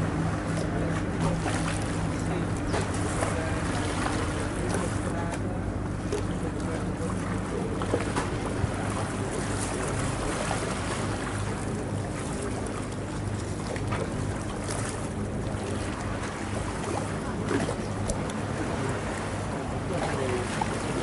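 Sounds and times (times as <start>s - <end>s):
boat engine humming: 0.0s - 21.0s
water noise: 0.0s - 21.0s
wind: 0.0s - 21.0s.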